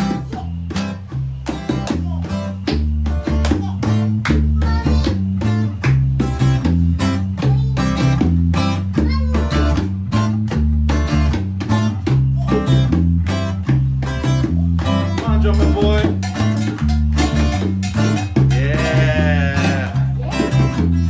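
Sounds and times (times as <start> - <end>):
bass line: 0.0 - 21.0
guitar strummed: 0.0 - 21.0.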